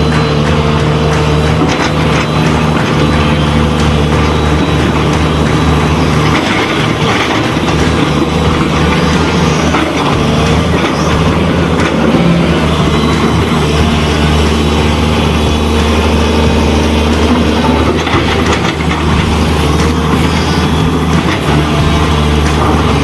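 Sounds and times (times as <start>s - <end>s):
dump truck diesel engine running: 0.0s - 23.0s.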